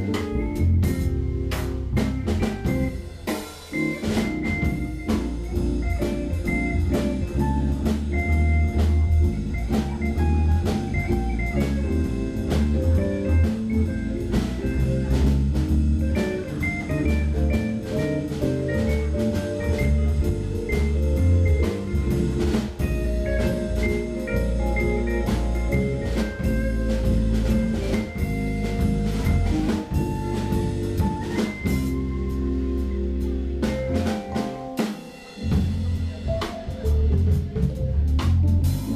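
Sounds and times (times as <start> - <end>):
busy bass line: 0.0 - 38.9
jazz fusion band playing: 0.0 - 38.9
steady drumming: 0.0 - 38.9.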